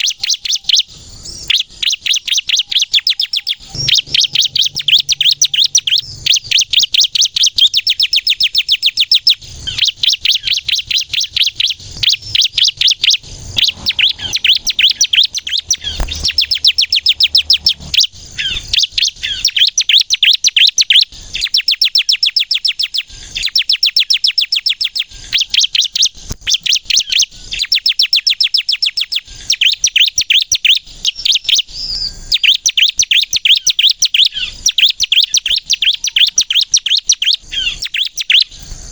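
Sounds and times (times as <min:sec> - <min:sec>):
bird singing rapid high notes: 0:00.0 - 0:38.6.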